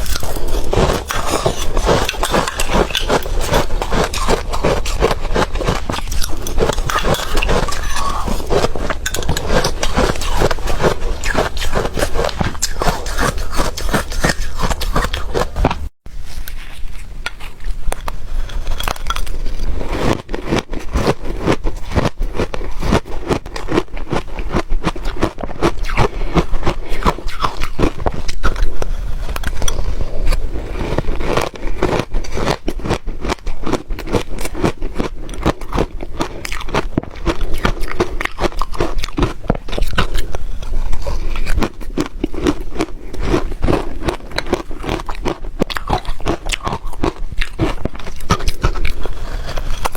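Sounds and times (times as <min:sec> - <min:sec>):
crunching and chewing ice: 0:00.0 - 0:49.9.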